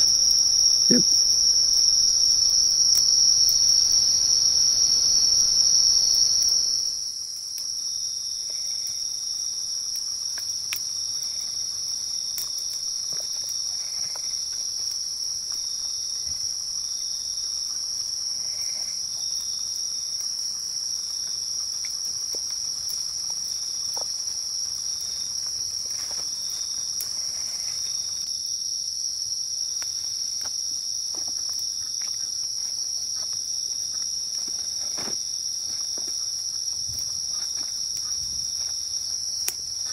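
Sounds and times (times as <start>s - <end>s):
crickets trilling: 0.0s - 39.9s
low pulsing insect chirping: 0.0s - 39.9s.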